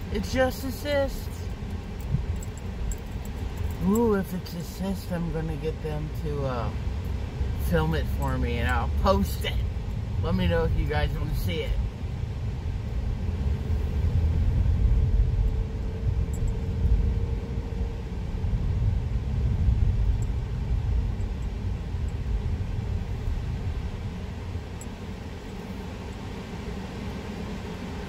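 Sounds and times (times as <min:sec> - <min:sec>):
road and engine rumble in car: 0:00.0 - 0:28.0.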